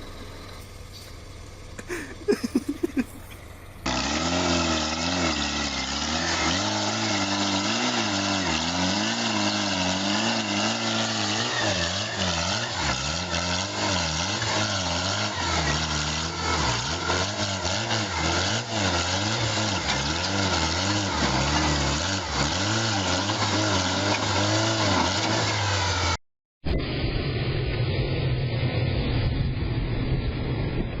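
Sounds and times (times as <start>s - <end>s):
vehicle engine revving: 0.0s - 26.2s.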